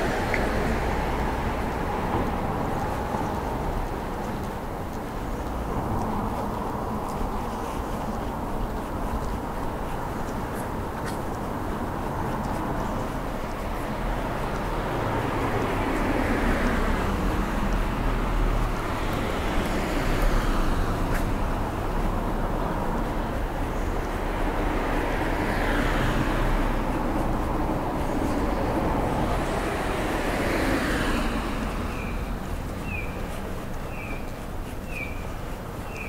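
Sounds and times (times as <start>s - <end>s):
cars driving past: 0.0s - 36.0s.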